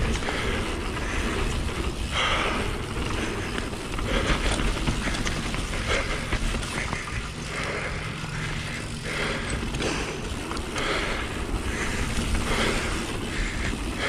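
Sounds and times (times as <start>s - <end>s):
bike tyres rolling on dirt: 0.0s - 14.0s.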